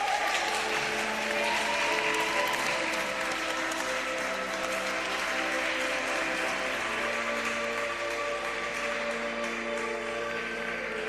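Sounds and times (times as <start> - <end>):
audience applauding: 0.0 - 11.0
music with long held notes: 0.0 - 11.0.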